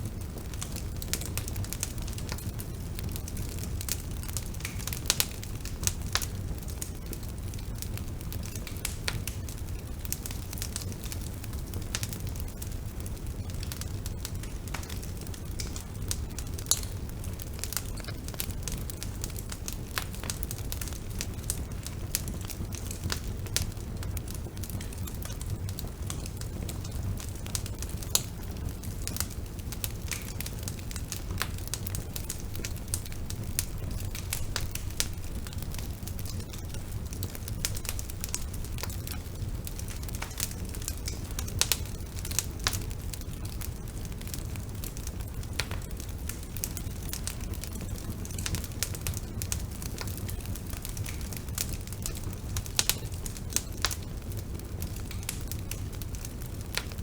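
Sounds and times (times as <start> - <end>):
bonfire flames rumbling: 0.0 - 57.0
burning wood crackling and popping: 0.0 - 57.0.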